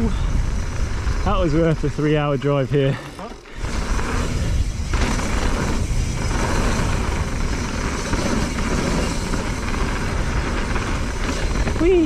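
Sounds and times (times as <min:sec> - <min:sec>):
wind rumble on microphone: 0:00.0 - 0:02.8, 0:03.6 - 0:12.0
bike tyre roar on dirt: 0:00.0 - 0:12.0.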